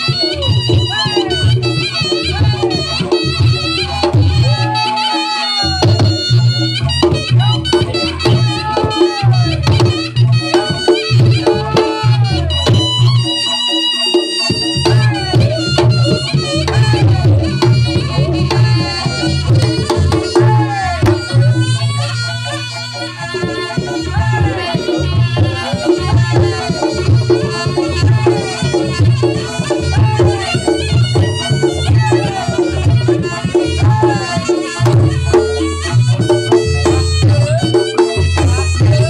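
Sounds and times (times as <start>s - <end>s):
drums and gongs beat: 0.0s - 39.0s
reedy wind instrument melody: 0.0s - 39.0s.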